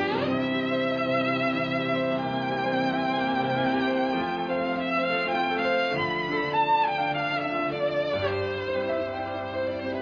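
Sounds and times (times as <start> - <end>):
slow mournful instrumental music: 0.0 - 10.0.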